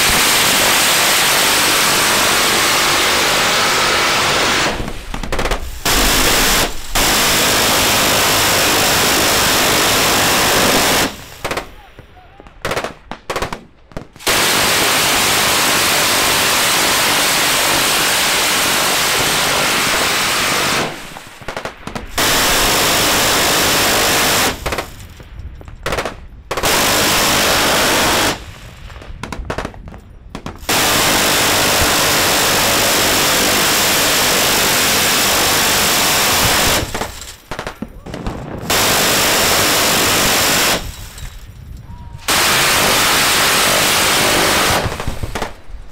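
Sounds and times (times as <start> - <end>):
rotary machine gun bursts: 0.0 - 11.7, 14.2 - 25.0, 26.0 - 28.4, 30.6 - 37.8, 38.7 - 41.2, 42.3 - 45.6.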